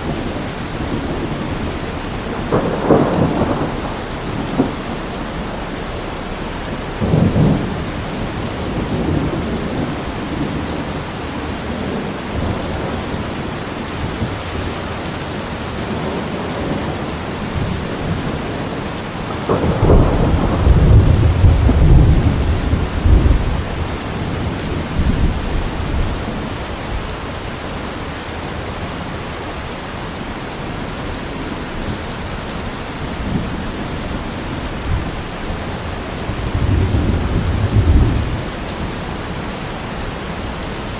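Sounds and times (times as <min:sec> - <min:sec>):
thunder rumbling: 0:00.0 - 0:27.5, 0:30.8 - 0:40.9
steady rain falling: 0:00.0 - 0:40.9.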